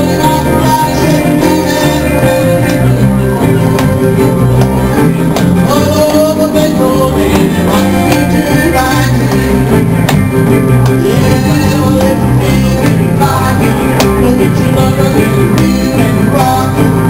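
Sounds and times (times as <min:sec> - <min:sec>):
live rock and roll band: 0:00.0 - 0:17.0.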